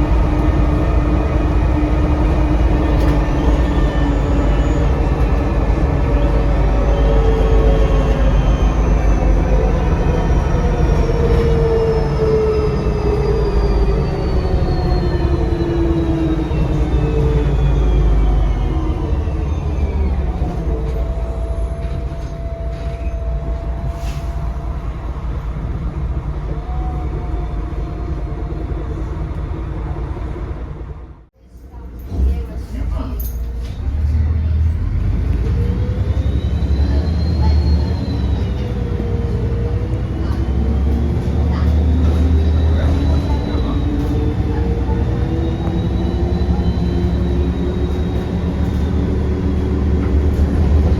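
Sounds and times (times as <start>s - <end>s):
diesel bus engine: 0.0s - 50.9s.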